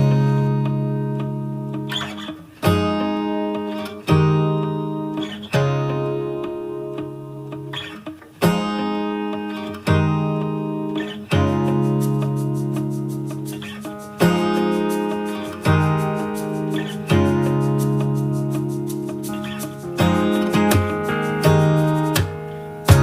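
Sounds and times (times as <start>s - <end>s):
strummed acoustic guitar chords: 0.0s - 23.0s.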